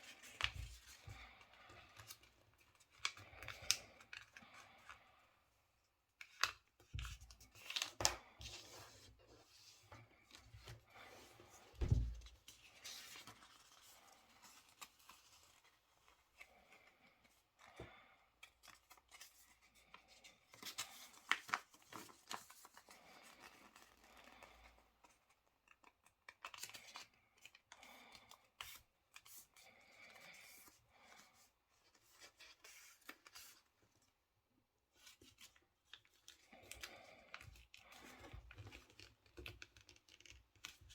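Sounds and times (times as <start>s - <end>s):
paper folding and creasing: 0.0s - 5.0s, 6.2s - 17.4s, 18.4s - 27.8s, 28.4s - 33.7s, 34.9s - 40.9s.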